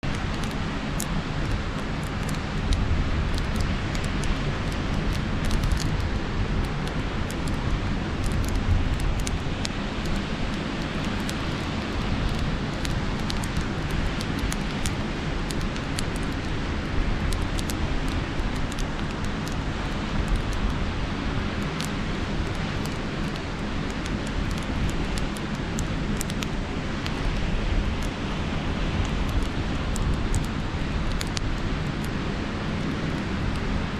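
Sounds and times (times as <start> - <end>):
campfire crackling and popping: 0.0 - 33.9
wind: 0.0 - 33.9.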